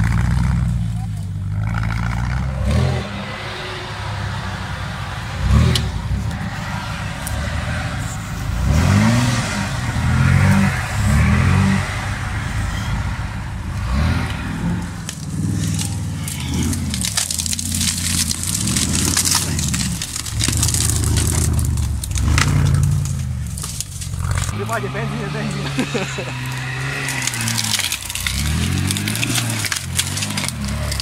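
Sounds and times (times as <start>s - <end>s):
off-road engines revving: 0.0s - 31.0s
twigs crackling under tyres: 0.0s - 31.0s.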